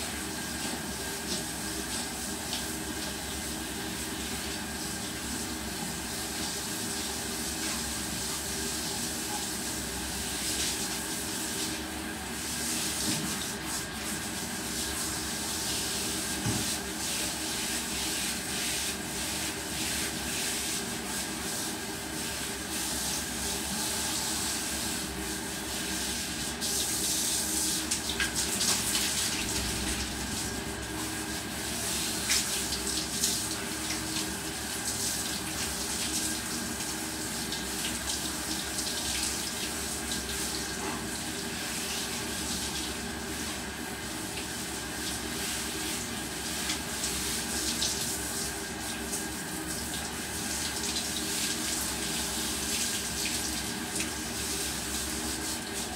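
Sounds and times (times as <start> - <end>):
water running from shower hose: 0.0 - 55.9.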